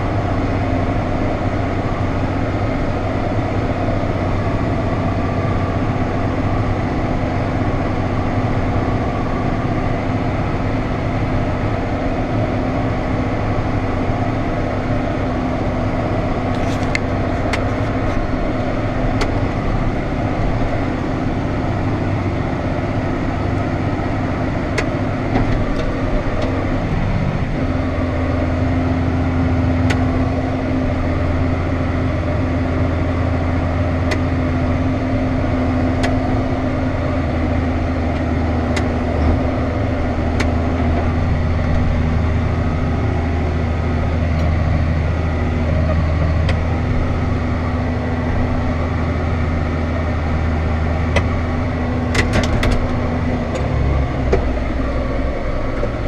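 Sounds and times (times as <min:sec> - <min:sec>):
diesel machinery engine hum: 0:00.0 - 0:56.0.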